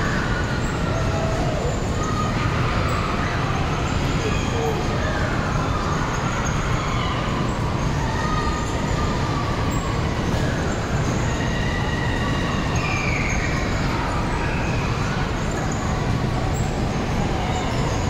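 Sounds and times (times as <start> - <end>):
faint high squeals: 0.0 - 18.0
fairground ride cars rumbling: 0.0 - 18.0.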